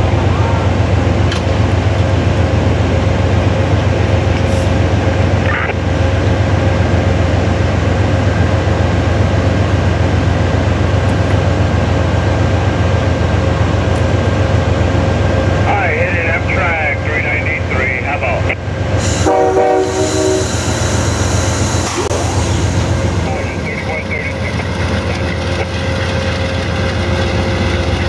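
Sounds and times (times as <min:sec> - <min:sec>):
train equipment humming: 0:00.0 - 0:28.0.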